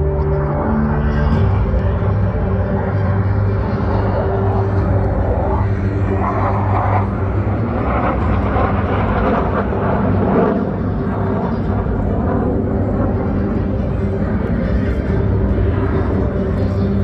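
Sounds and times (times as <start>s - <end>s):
constant low hum: 0.0s - 17.0s
jets flying overhead: 0.0s - 17.0s.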